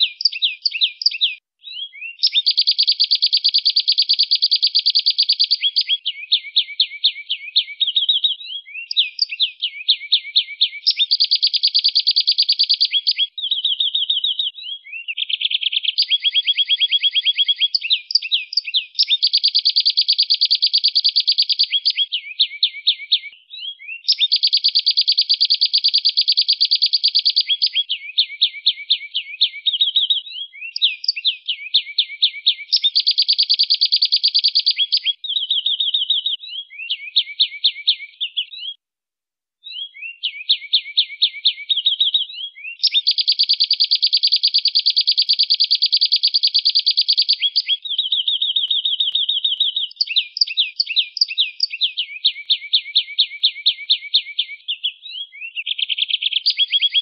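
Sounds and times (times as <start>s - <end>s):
canary singing trills: 0.0s - 38.8s, 39.6s - 57.0s.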